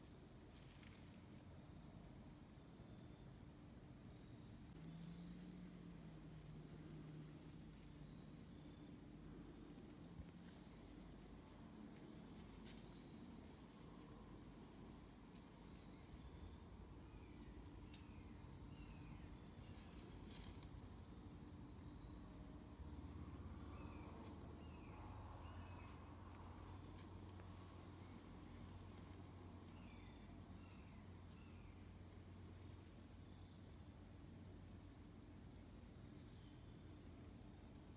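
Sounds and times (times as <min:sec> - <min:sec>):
high-pitched insect trill: 0:00.0 - 0:37.9.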